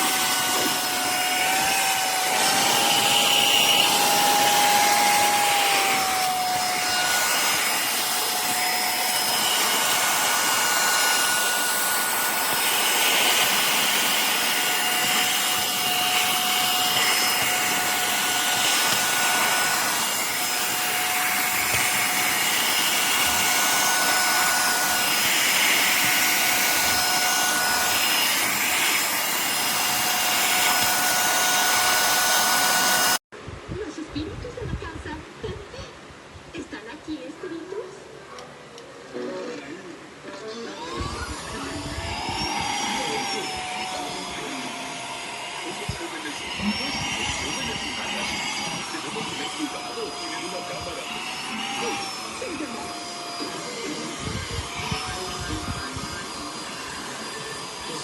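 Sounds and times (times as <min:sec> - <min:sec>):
handheld vacuum cleaner running: 0:00.0 - 0:33.3, 0:40.8 - 0:58.0.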